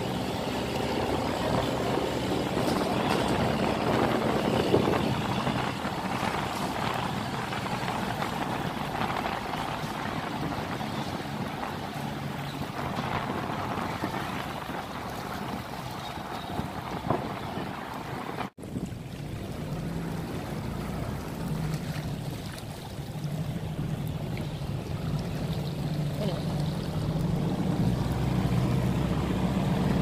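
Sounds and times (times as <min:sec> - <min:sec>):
barge engine droning: 0:00.0 - 0:30.0
water rushing through sluice gate: 0:00.0 - 0:30.0.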